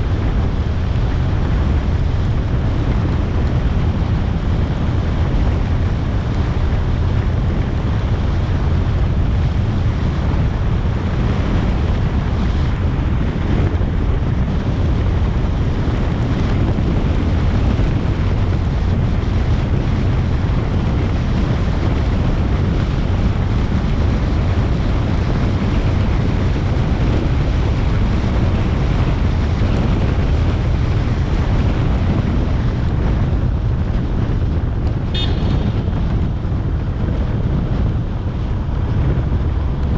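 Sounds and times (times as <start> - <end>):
motorcycle running: 0.0 - 39.9
road noise: 0.0 - 39.9
wind buffeting microphone: 0.0 - 39.9.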